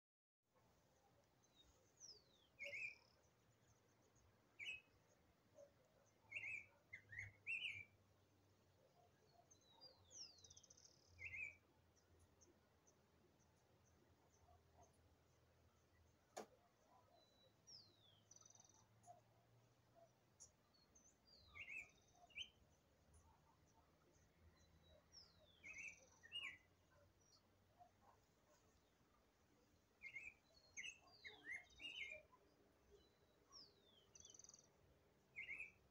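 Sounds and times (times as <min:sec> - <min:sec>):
songbird chirping: 0:00.6 - 0:35.9.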